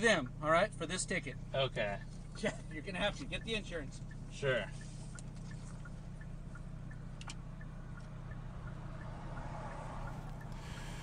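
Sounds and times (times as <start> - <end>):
low car hum: 0.0 - 11.0
indicator flasher ticking: 1.0 - 11.0.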